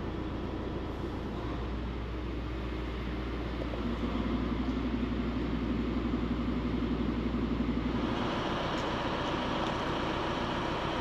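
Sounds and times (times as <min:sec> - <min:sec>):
train engine idling: 0:00.0 - 0:11.0.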